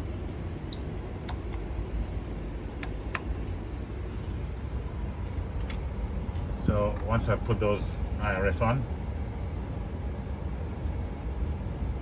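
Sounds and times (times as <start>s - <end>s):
ventilation and equipment fans humming: 0.0s - 12.0s.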